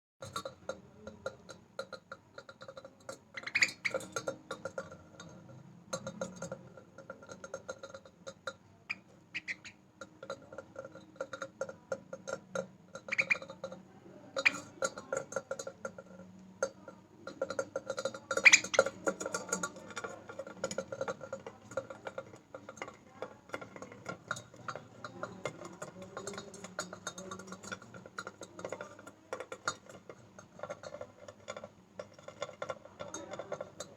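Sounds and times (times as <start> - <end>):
metal utensil clinking: 0.2 - 33.9.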